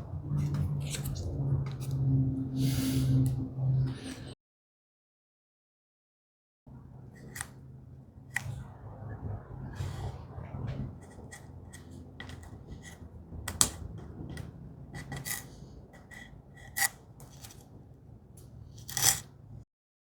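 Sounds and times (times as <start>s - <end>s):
low hum: 0.0s - 4.4s, 6.7s - 19.6s.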